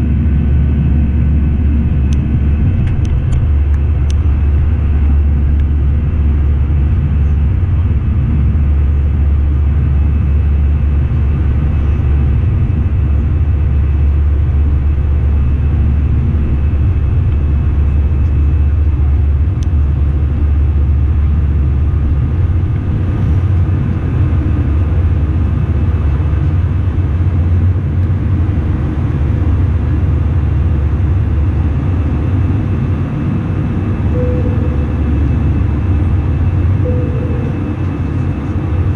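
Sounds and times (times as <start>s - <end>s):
jet cabin engine rumble: 0.0s - 38.9s.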